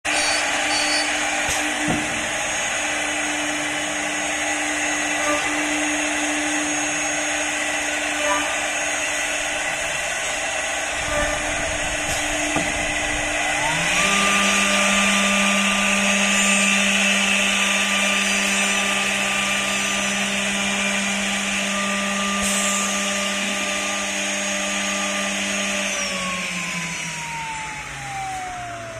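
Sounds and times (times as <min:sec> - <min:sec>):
spindle whine: 0:00.1 - 0:28.9.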